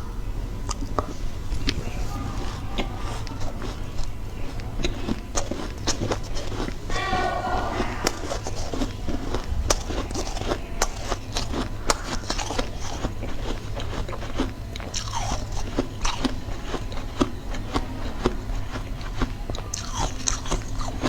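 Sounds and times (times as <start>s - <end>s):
chewing ice crunches: 0.7s - 21.0s.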